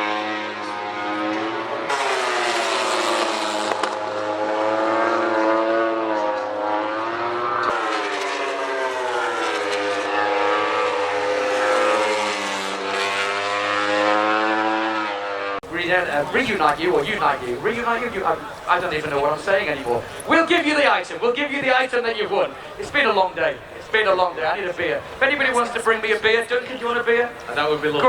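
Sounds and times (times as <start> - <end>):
engines running: 0.0 - 28.0.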